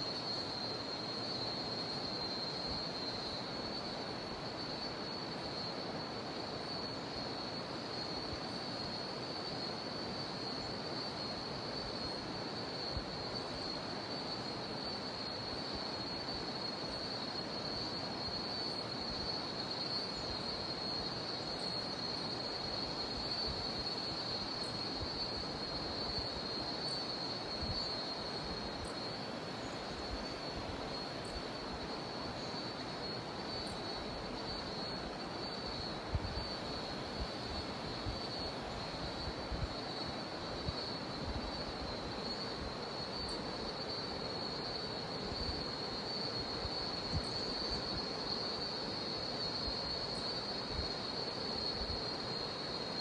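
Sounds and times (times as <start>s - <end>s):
cicadas droning: 0.0s - 53.0s.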